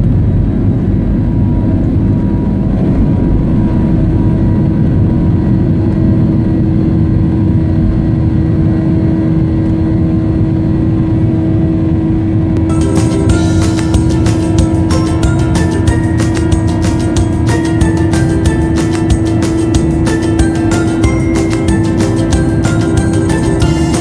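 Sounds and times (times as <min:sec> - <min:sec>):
constant hum: 0:00.0 - 0:24.0
jet engines and airflow rumble: 0:00.0 - 0:24.0.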